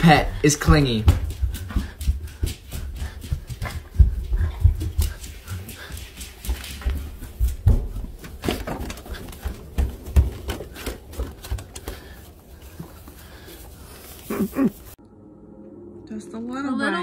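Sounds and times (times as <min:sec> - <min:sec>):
footsteps on tiled floor: 0:00.0 - 0:15.0.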